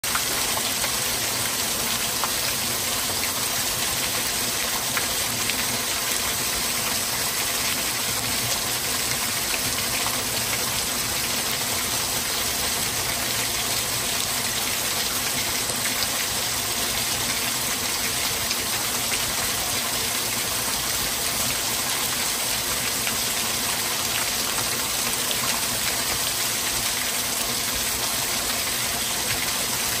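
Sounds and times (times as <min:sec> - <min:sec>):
water dripping and splashing: 0:00.0 - 0:30.0
waterfall pouring onto rock: 0:00.0 - 0:30.0.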